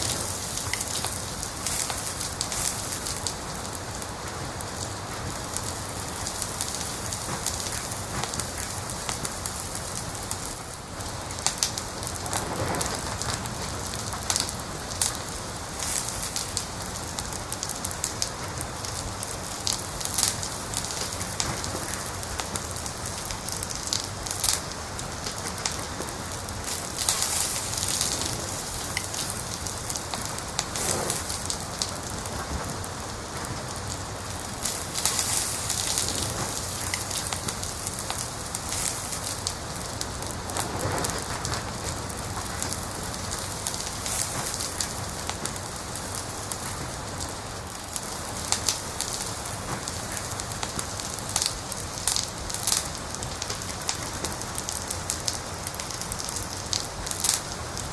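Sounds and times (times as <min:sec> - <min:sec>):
fire pops and snaps: 0:00.0 - 0:57.9
wood fire crackling: 0:00.0 - 0:57.9.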